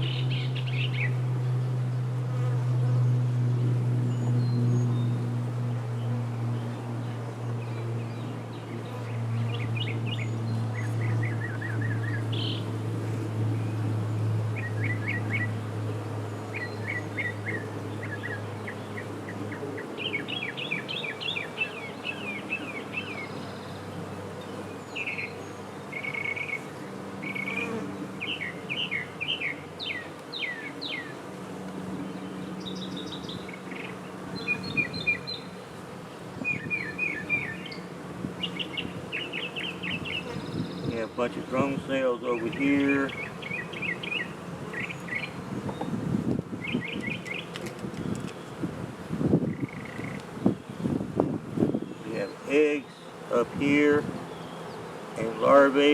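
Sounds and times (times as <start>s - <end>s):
small birds chirping: 0.0s - 1.7s, 2.9s - 12.7s, 13.5s - 48.7s, 49.3s - 55.9s
honey bees humming: 0.0s - 55.9s.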